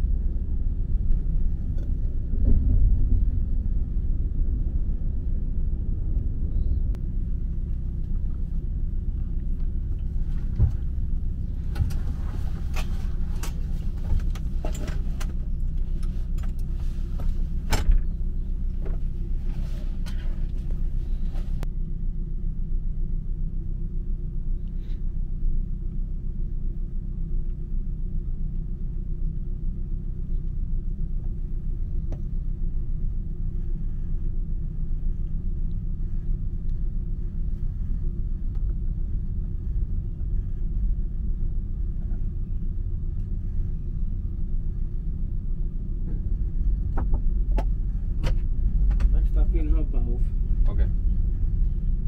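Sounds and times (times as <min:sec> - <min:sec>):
constant hum: 0:00.0 - 0:52.0
train low rumble: 0:00.0 - 0:52.0.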